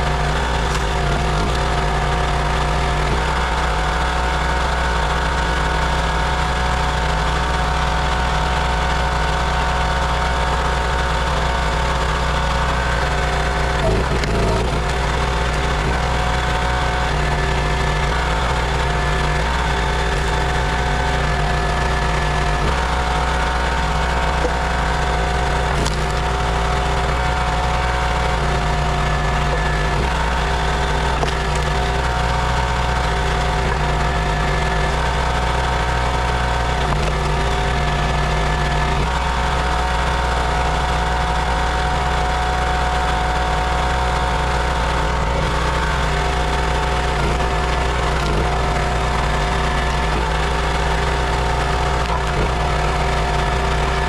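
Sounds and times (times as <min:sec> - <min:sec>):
log splitter gas engine running: 0:00.0 - 0:54.0.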